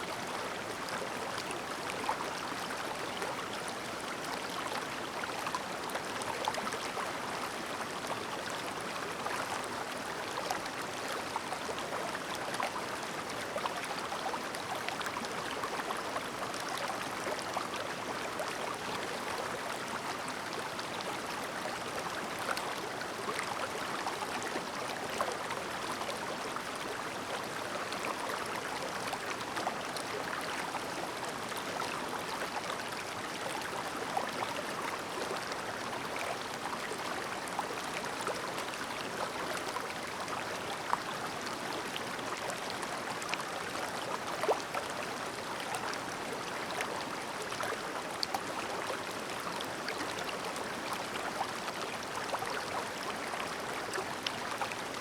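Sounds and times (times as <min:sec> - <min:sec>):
stream babbling over stones: 0:00.1 - 0:55.0.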